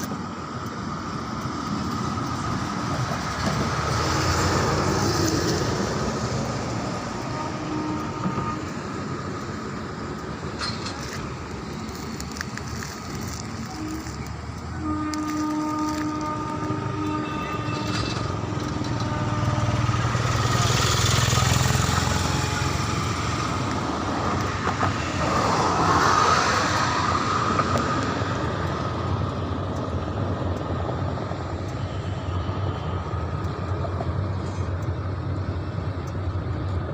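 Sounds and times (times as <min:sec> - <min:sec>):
vehicles passing: 0:00.0 - 0:36.9.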